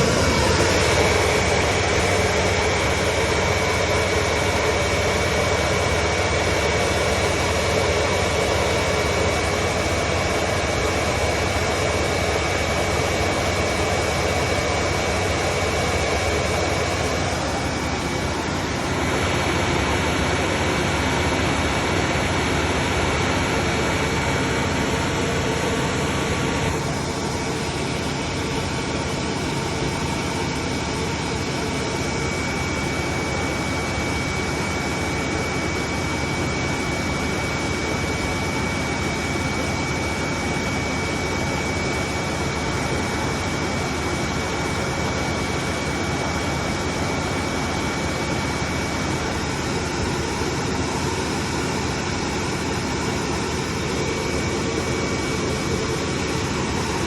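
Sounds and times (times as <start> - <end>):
thin high whine: 0.0 - 57.0
washing machine spinning: 0.0 - 57.0.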